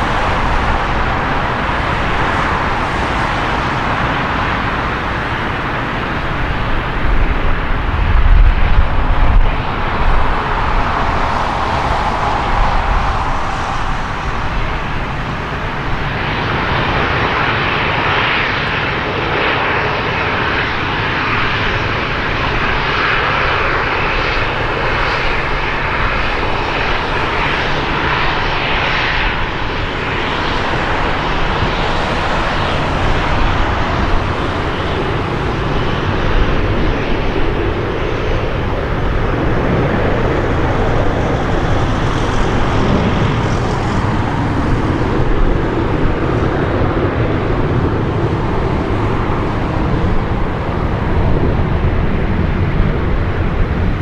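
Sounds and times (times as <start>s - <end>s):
jet engines roar and whine: 0.0s - 54.0s.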